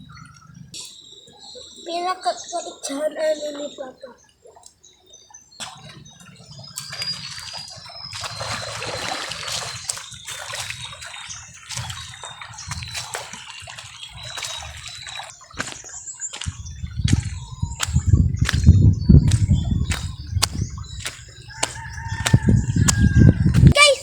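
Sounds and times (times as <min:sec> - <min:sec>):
water splashing and sloshing: 0:04.2 - 0:24.0.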